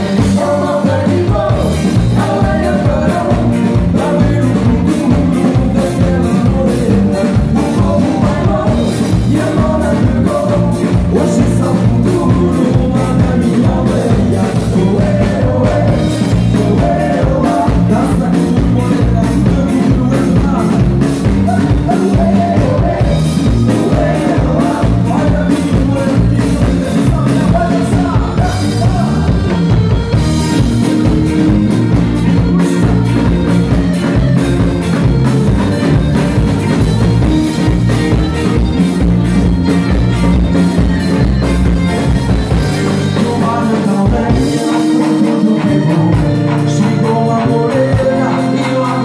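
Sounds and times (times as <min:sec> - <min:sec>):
accordion: 0:00.0 - 0:49.0
drum kit: 0:00.0 - 0:49.0
electric guitar: 0:00.0 - 0:49.0
live band playing dance music: 0:00.0 - 0:49.0.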